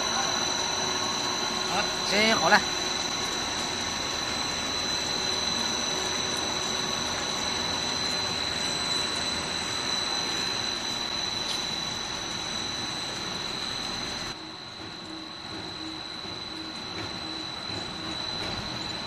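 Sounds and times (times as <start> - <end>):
high machine whine: 0.0 - 19.0
machine noise: 0.0 - 19.0.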